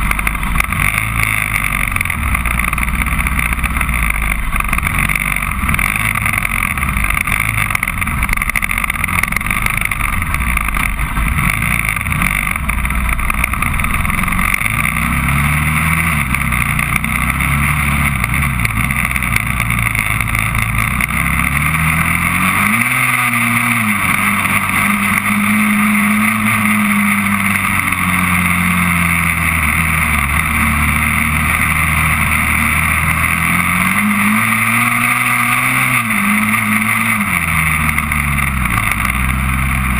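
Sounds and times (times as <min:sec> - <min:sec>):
quad engine accelerating: 0:00.0 - 0:39.9.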